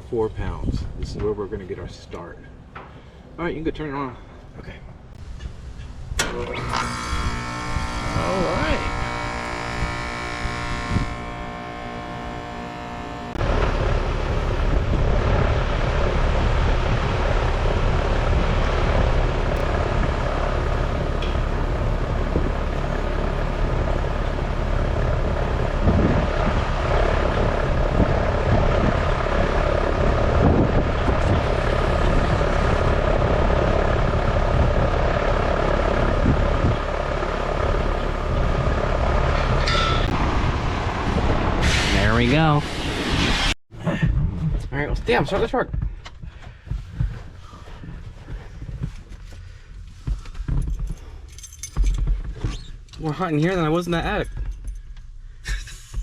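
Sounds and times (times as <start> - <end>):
air conditioner fan rush: 0.0 - 56.0.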